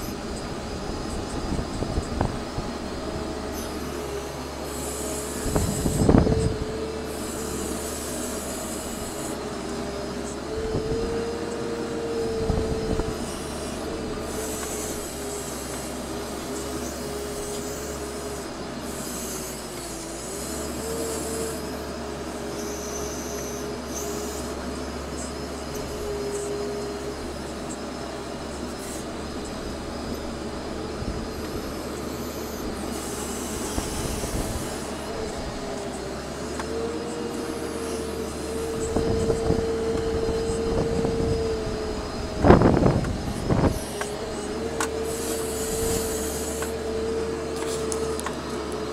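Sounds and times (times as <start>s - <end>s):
drive whine: 0.0s - 48.9s
loader engine running: 0.0s - 48.9s.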